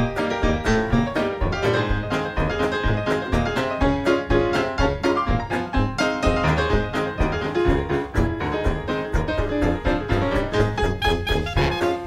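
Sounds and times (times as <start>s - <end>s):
piano music with strong bass: 0.0s - 12.0s.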